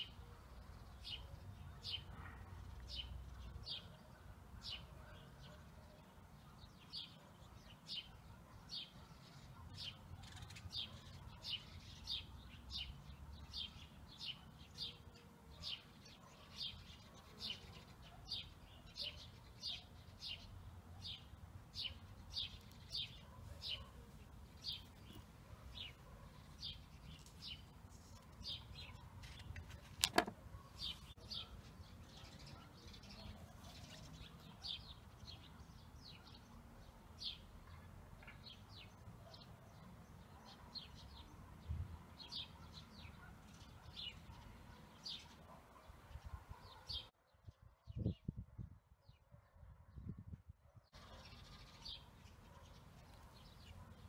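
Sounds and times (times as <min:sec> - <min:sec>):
faint bird chirping: 0:00.0 - 0:48.1.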